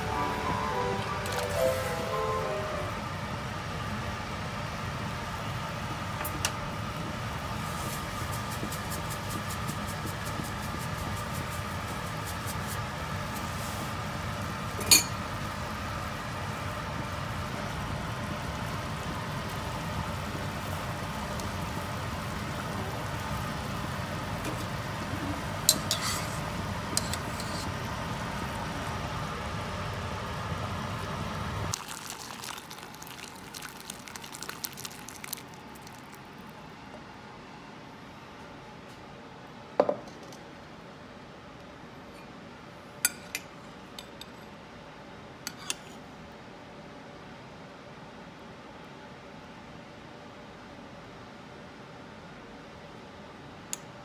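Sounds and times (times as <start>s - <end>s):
gas stove rumbling hiss: 0.0s - 54.0s.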